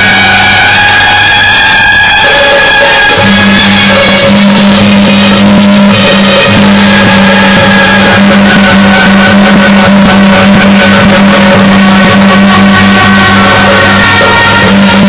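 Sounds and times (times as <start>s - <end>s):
pitched melody: 0.0s - 15.0s.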